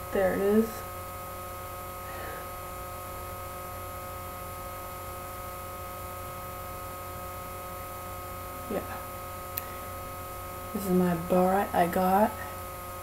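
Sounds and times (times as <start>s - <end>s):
electrical hum and buzz: 0.0s - 13.0s.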